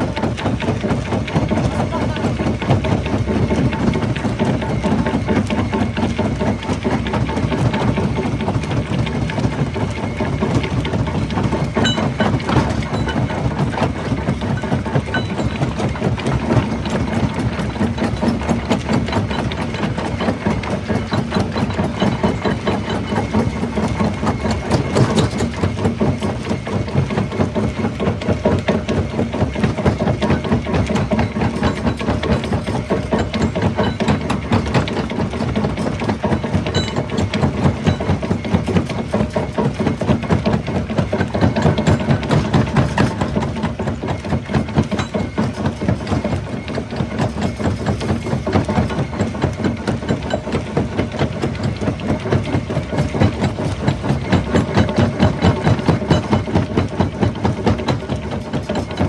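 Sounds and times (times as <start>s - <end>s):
rock crusher running: 0.0s - 59.0s.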